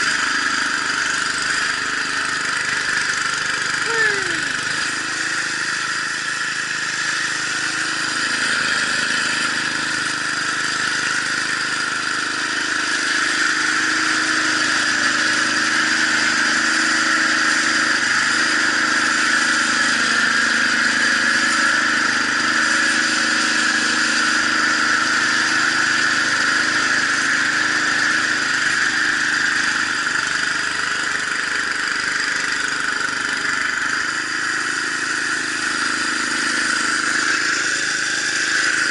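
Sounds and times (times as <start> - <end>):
snowblower engine running: 0.0 - 38.9
high-pitched whir: 3.6 - 30.1, 33.2 - 38.9.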